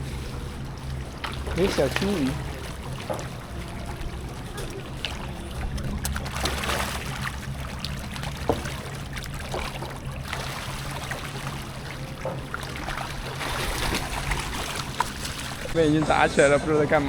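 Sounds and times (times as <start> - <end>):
river water splashing and trickling: 0.0 - 17.0
steady low hum: 0.0 - 17.0.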